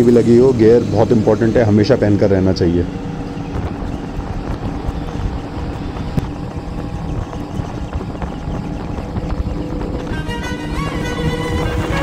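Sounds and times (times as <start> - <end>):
motorcycle engine cruising: 0.0 - 12.0
road and wind noise: 0.0 - 12.0.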